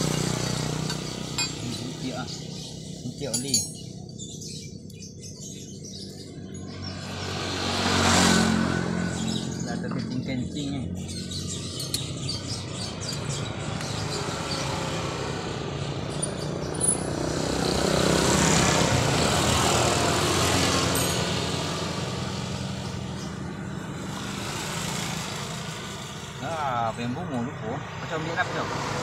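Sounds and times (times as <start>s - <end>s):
vehicle passing by: 0.0s - 3.2s, 6.4s - 29.0s
vehicle engine running: 0.0s - 29.0s.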